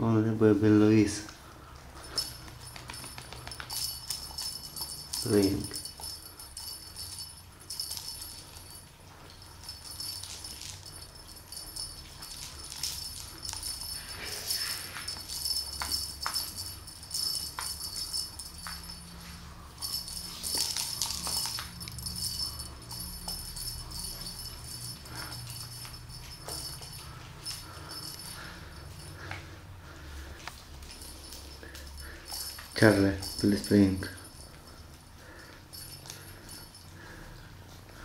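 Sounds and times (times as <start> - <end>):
small bell jingling: 0.7 - 38.0.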